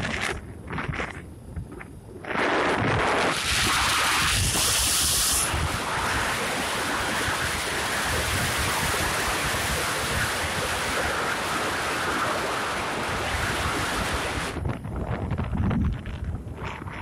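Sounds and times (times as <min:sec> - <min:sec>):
road noise: 0:00.0 - 0:15.1
wind buffeting microphone: 0:00.0 - 0:17.0.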